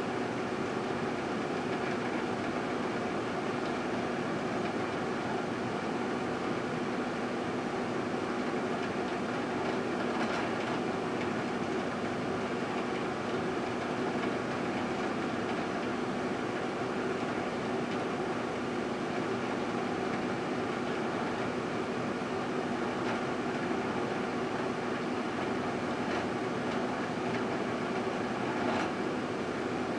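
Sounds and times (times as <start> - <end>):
microwave oven humming: 0.0 - 29.9.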